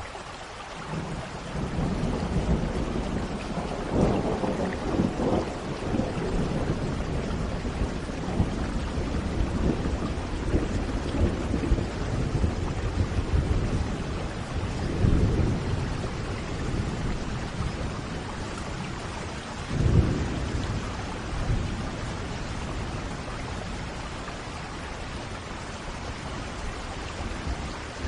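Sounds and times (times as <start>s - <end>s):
heavy rain: 0.0s - 28.0s
thunder rumbling: 0.9s - 28.0s.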